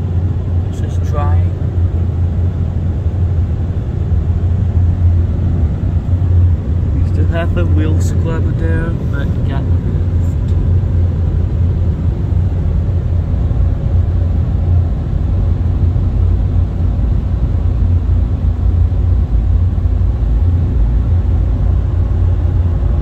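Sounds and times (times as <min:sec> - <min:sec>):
car wash machine rumble: 0:00.0 - 0:23.0.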